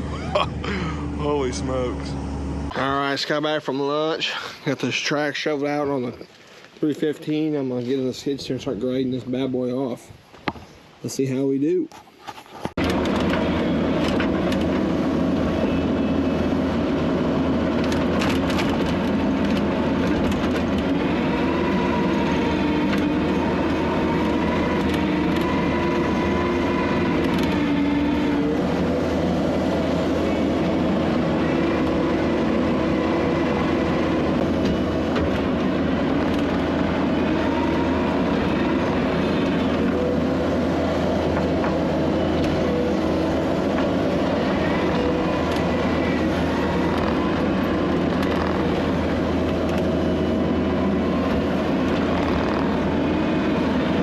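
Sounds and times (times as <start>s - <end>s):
skid steer engine running: 0.0s - 3.9s, 12.8s - 54.0s
hydraulic whine: 0.0s - 4.1s, 12.8s - 54.0s.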